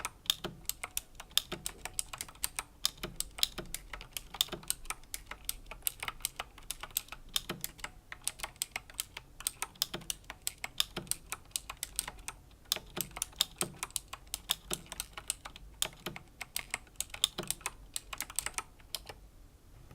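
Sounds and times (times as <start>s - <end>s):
mechanical keyboard clicks: 0.0s - 19.2s.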